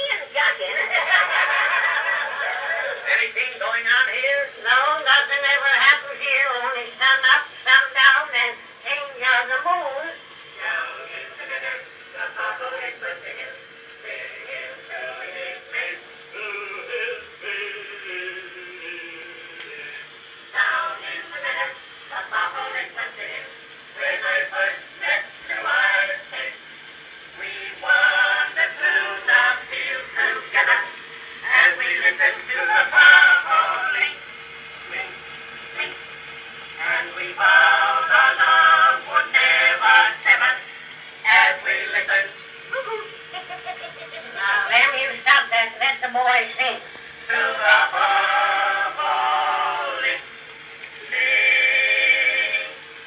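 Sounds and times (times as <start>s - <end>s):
singing on old phonograph recording: 0.0s - 53.0s.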